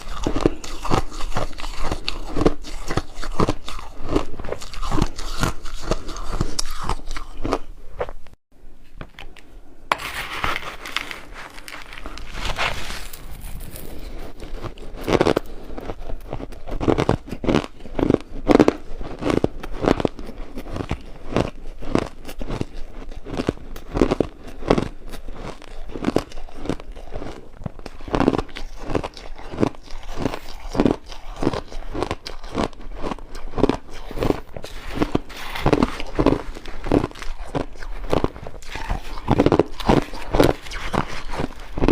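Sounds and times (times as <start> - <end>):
ice being chewed: 0.0 - 8.2, 9.9 - 41.9.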